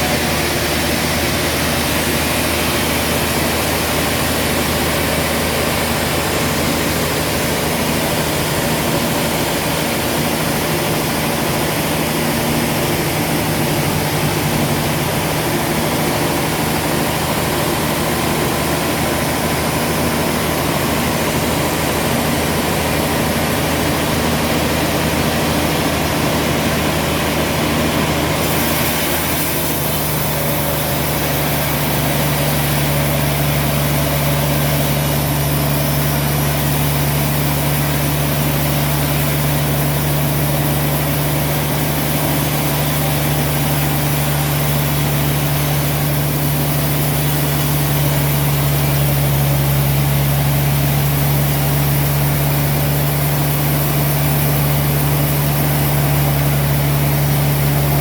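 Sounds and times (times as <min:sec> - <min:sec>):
sawmill machinery engine hum: 0:00.0 - 0:58.0.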